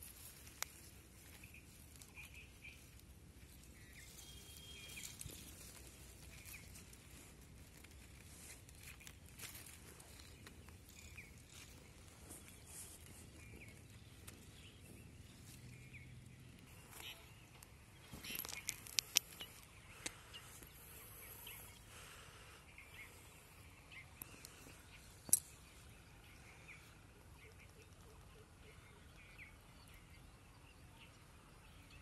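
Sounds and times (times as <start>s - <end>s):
rustle: 0.0s - 32.0s
faint bird chirps: 0.1s - 32.0s.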